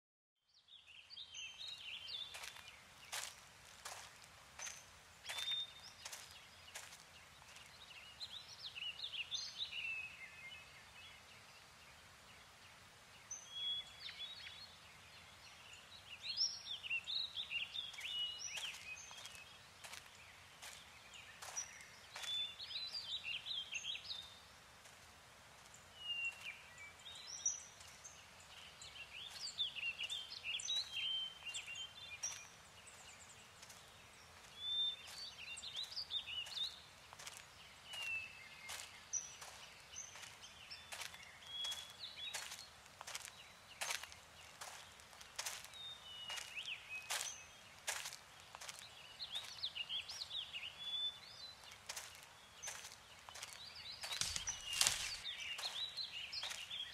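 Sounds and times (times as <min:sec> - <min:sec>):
songbirds chirping and whistling: 0:00.7 - 0:11.6, 0:13.2 - 0:24.5, 0:25.7 - 0:56.9
faint steady hiss: 0:01.1 - 0:56.9.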